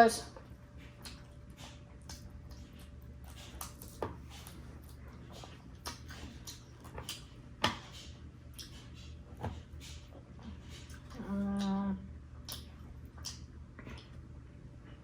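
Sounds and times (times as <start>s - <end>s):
low steady hum: 0.0s - 15.0s
chewing clicks and smacks: 0.4s - 11.8s, 12.4s - 14.2s.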